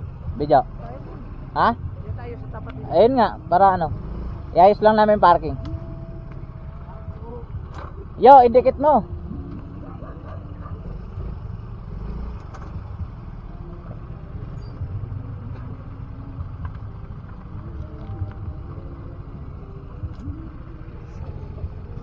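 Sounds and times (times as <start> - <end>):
scooter engine running at low revs: 0.0 - 22.0.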